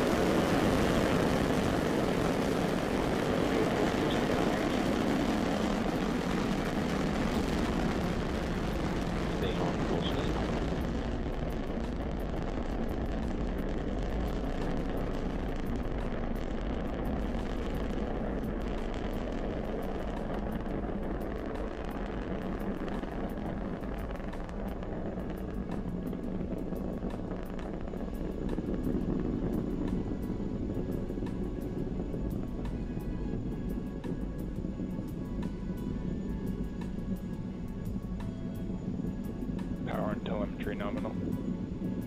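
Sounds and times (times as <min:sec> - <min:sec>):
rocket engines roaring with crackling: 0:00.0 - 0:42.0.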